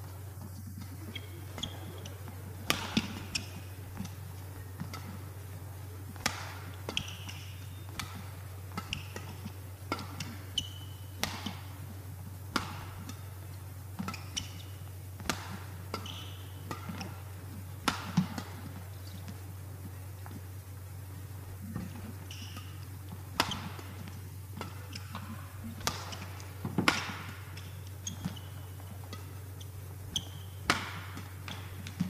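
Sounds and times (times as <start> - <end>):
shoes squeaking on court: 0.0 - 32.0
steady low hum: 0.0 - 32.0
rackets striking shuttlecock: 0.8 - 11.8, 12.5 - 19.4, 21.7 - 32.0.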